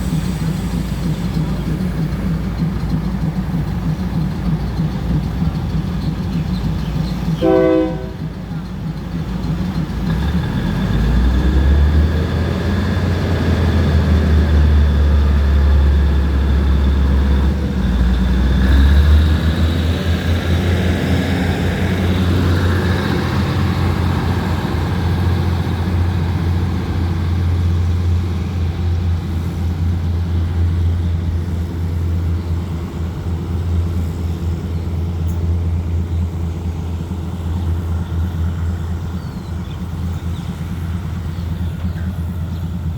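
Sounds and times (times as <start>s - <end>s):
diesel locomotive engine rumble: 0.0s - 42.9s.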